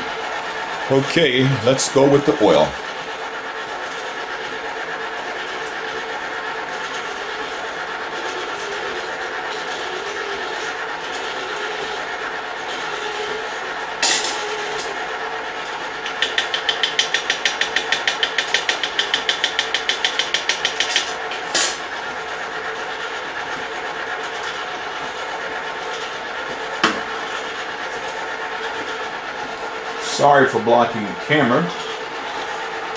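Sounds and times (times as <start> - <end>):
popcorn machines humming: 0.0 - 32.9
rapid mechanical clicking: 0.0 - 32.9.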